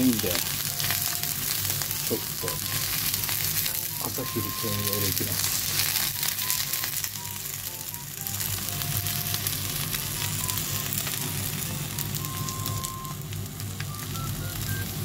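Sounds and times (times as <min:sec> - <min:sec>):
sausages and egg sizzling in a pan: 0:00.0 - 0:15.0
small crackles of frying: 0:00.0 - 0:15.0.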